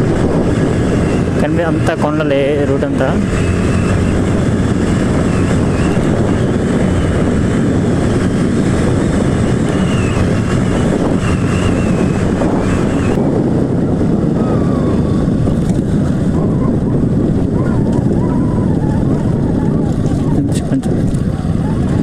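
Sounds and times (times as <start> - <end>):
motorcycle running: 0.0 - 22.0
wind rush on microphone: 0.0 - 22.0.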